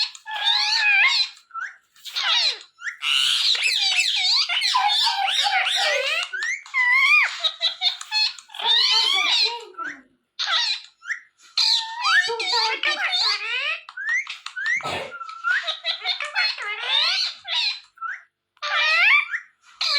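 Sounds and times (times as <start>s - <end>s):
parrot chattering: 0.0s - 19.9s.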